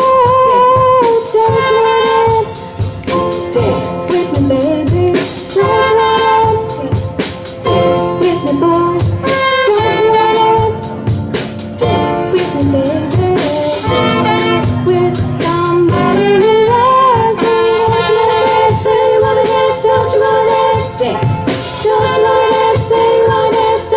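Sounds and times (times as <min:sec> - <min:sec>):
person singing lead: 0:00.0 - 0:07.1, 0:11.8 - 0:23.9
electric guitar: 0:00.0 - 0:22.5
bass guitar: 0:00.0 - 0:23.9
drums: 0:00.0 - 0:23.9
keyboard: 0:00.0 - 0:23.9
saxophone: 0:00.0 - 0:23.9.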